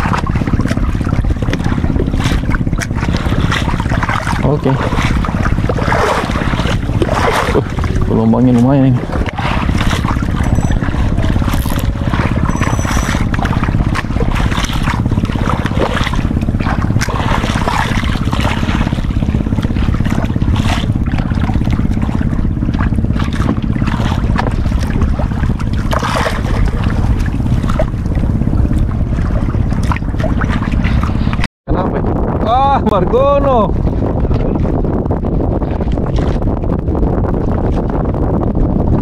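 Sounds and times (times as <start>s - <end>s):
boat engine running: 0.0s - 39.0s
waves slapping against hull: 0.0s - 39.0s.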